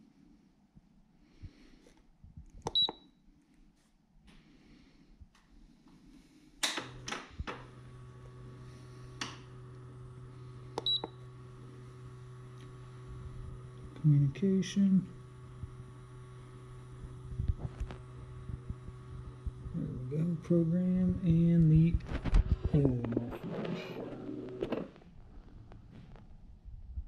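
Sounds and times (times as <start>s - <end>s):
steady low hum: 4.3s - 27.0s.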